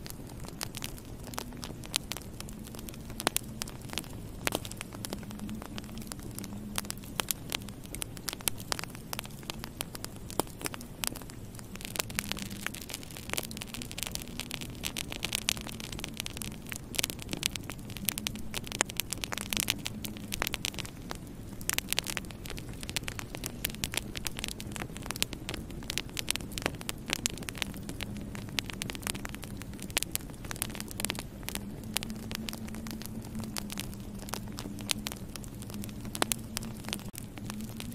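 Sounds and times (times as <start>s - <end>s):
low steady hum: 0.0s - 37.9s
wood fire crackling and popping: 0.0s - 37.9s.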